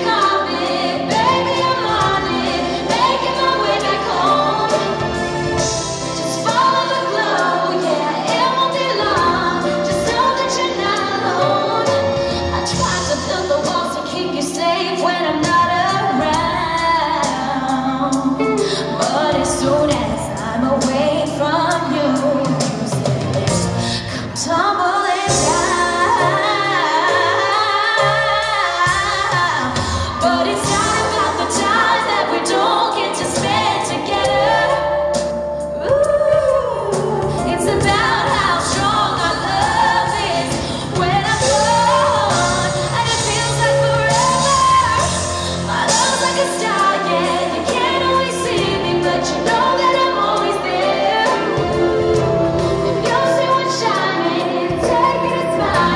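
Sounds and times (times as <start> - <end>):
drums: 0.0 - 55.9
keyboard: 0.0 - 55.9
woman singing a pop ballad: 6.3 - 35.0, 35.7 - 55.9.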